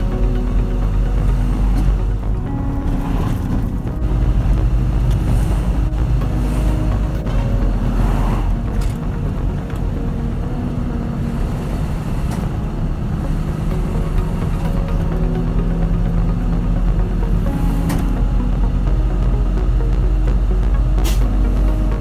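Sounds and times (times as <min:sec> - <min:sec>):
passing traffic: 0:00.0 - 0:22.0
truck engine and road rumble: 0:00.0 - 0:22.0.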